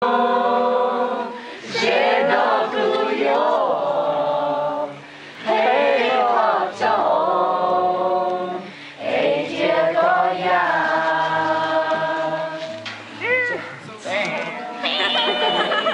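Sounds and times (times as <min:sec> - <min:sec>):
group of people singing: 0:00.0 - 0:13.2.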